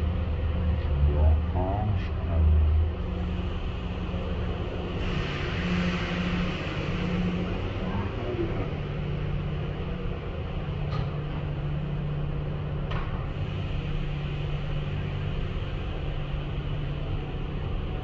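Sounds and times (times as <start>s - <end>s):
car wash machinery hum: 0.0s - 18.0s.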